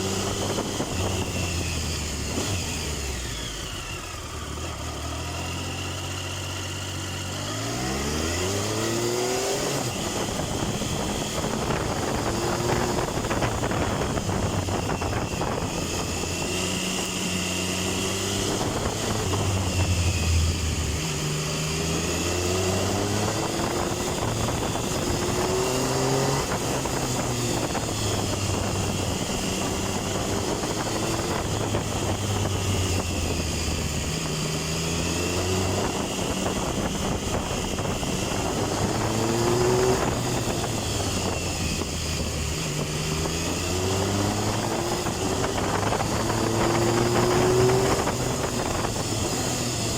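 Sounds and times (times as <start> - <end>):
motorcycle engine revving: 0.0 - 49.9
wind rushing over microphone: 7.8 - 49.9.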